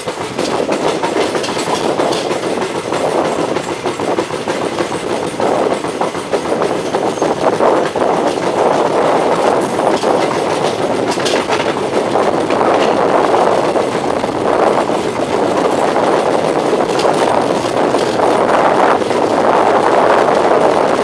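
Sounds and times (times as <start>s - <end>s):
clicks over rail joints: 0.0s - 21.0s
train wheels rumbling on rails: 0.0s - 21.0s.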